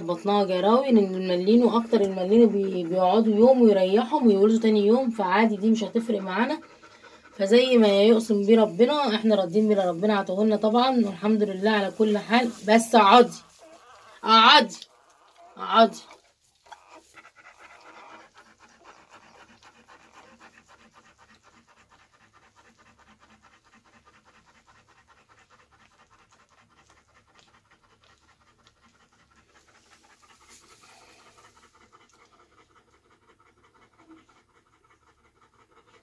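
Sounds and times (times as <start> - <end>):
dog panting: 0.0 - 36.0.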